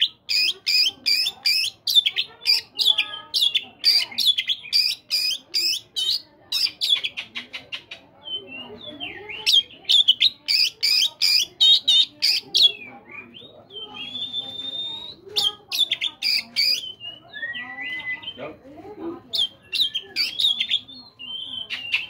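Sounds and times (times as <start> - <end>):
songbird singing: 0.0 - 18.6, 19.2 - 22.0.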